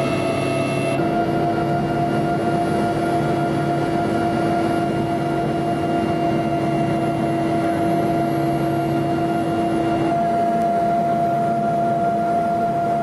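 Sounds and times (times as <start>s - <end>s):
helicopter engines and rotor: 0.0s - 13.0s.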